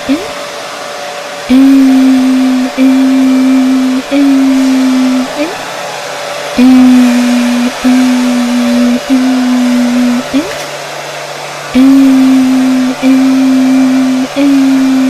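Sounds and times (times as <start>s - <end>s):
voice holding long eeee notes: 0.0s - 0.4s, 1.5s - 6.0s, 6.6s - 10.7s, 11.7s - 15.0s.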